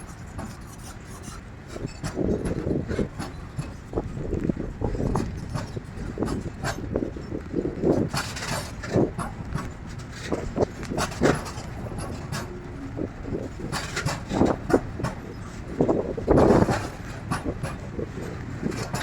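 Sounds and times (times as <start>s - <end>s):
train rumbling past: 0.0s - 19.0s
wheels knocking on rail joints: 0.0s - 19.0s.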